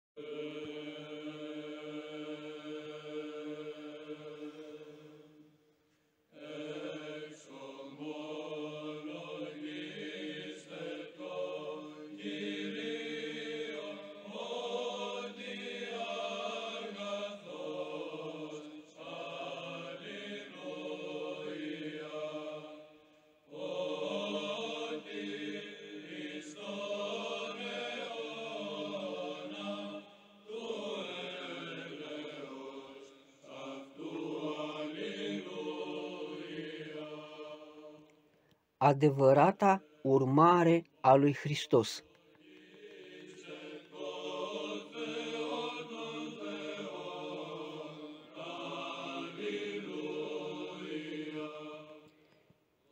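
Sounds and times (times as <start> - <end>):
choral chant: 0.2 - 52.9.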